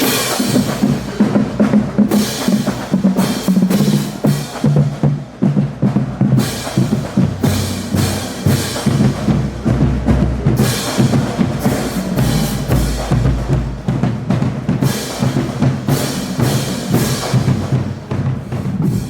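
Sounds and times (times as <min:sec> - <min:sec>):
snare and tenor drum strokes: 0:00.0 - 0:19.0.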